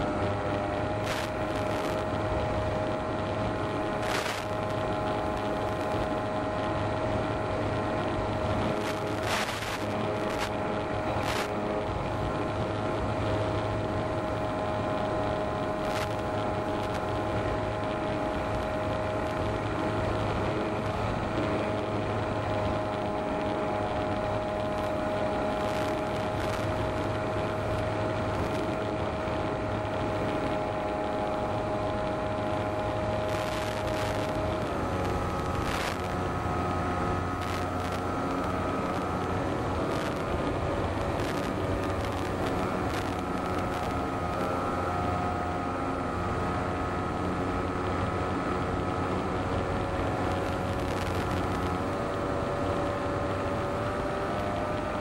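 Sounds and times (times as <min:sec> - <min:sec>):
electric motor and propeller whine: 0:00.0 - 0:55.0
wind rush: 0:00.1 - 0:55.0.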